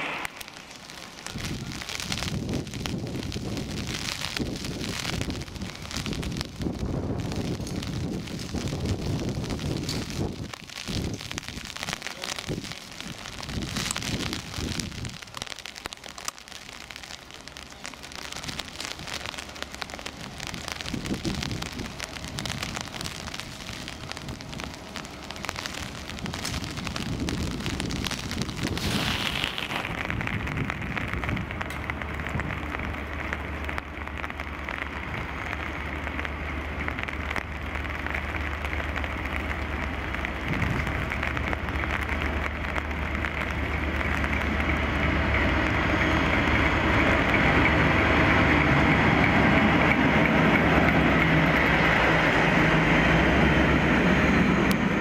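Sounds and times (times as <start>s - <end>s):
diesel locomotive engine drone: 0.0s - 55.0s
steady rain: 0.0s - 55.0s.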